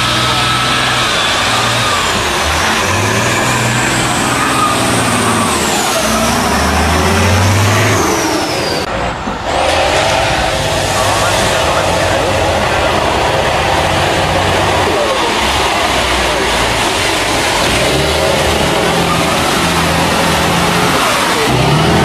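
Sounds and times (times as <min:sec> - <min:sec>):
truck diesel engine revving: 0:00.0 - 0:22.0.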